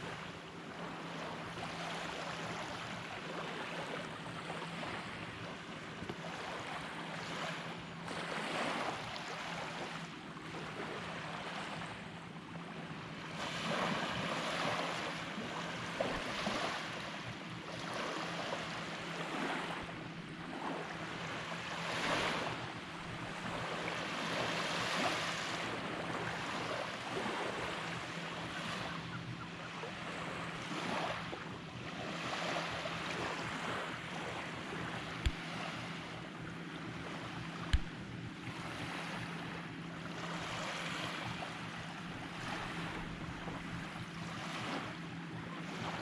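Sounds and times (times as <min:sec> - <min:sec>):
wind: 0:00.0 - 0:46.0.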